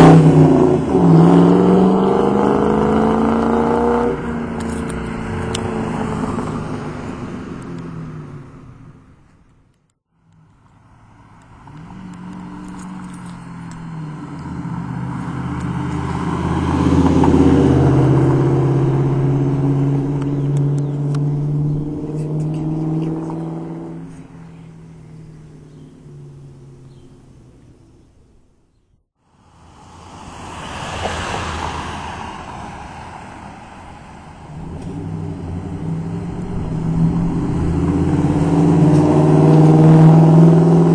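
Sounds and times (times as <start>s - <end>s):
car exhaust passing by: 0.0s - 9.3s, 10.4s - 28.2s, 29.3s - 40.9s.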